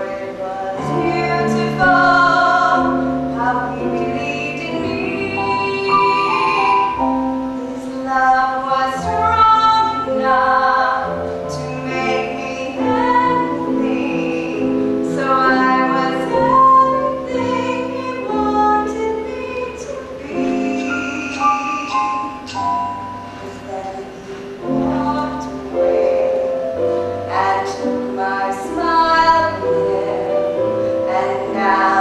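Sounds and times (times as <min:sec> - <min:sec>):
instrumental accompaniment: 0:00.0 - 0:32.0
woman singing: 0:00.0 - 0:32.0.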